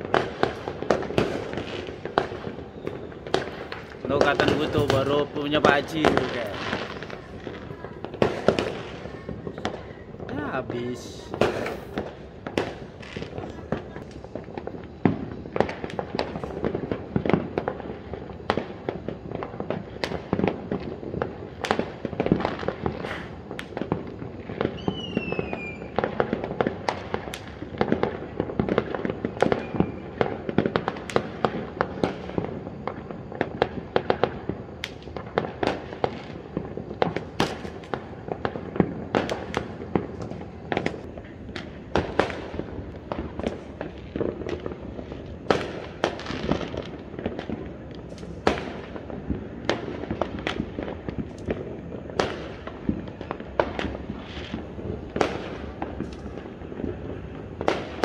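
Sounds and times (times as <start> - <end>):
falling firework whistle: 0.0 - 58.0
fireworks bangs and pops: 0.0 - 58.0.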